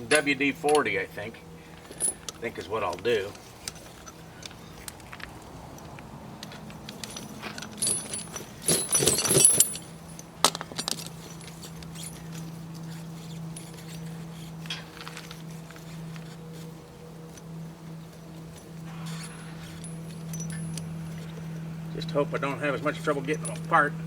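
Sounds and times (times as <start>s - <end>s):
low steady hum: 0.0s - 24.0s
tire chains rattling and clinking: 0.0s - 24.0s.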